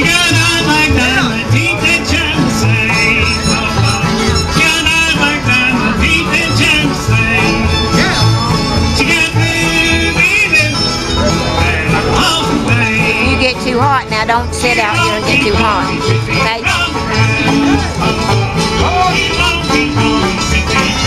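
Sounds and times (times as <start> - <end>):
live bluegrass band playing: 0.0 - 21.0.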